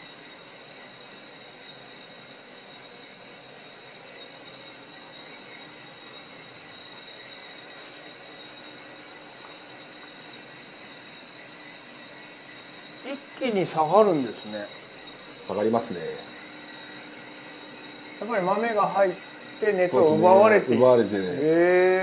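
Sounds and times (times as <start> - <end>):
coffee roaster hissing: 0.0 - 22.0.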